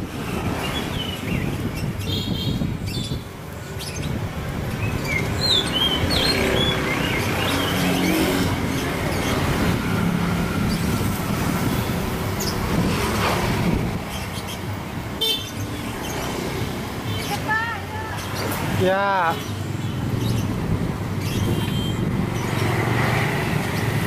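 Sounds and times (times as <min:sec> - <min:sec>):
traffic noise: 0:00.0 - 0:24.0.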